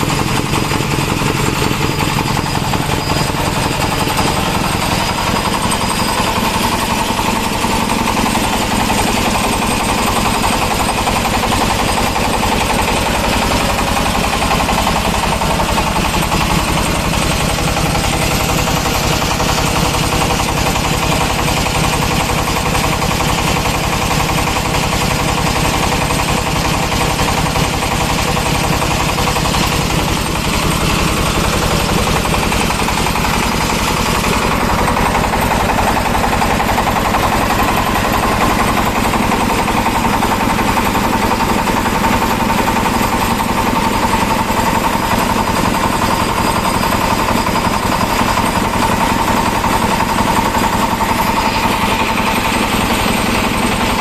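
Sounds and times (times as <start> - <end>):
diesel engine knocking: 0.0 - 54.0.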